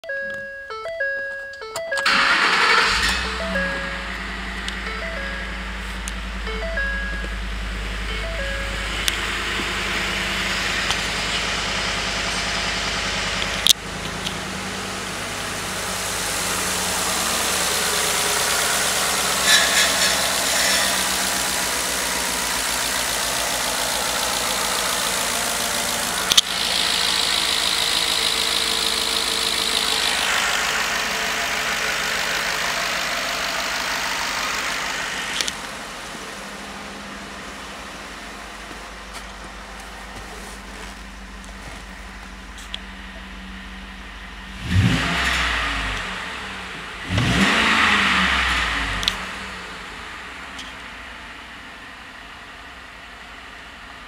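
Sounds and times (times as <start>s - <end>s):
truck engine idling: 1.8s - 47.2s.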